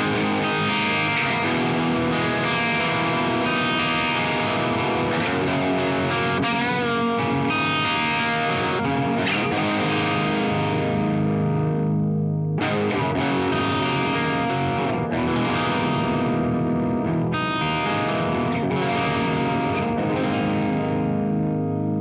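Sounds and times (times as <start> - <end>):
overdriven electric guitar: 0.0 - 22.0.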